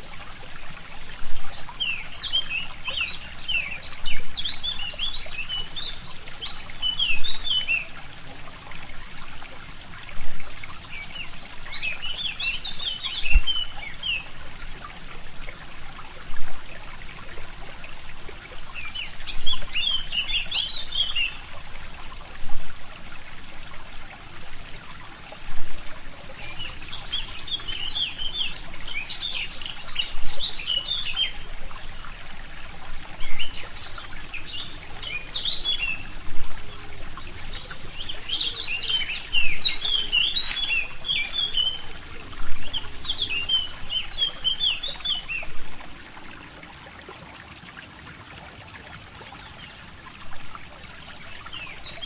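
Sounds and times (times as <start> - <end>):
stream trickling: 0.0 - 52.0
songbirds twittering: 1.0 - 8.0, 10.4 - 14.4, 16.7 - 22.5, 23.2 - 46.1, 49.4 - 52.0.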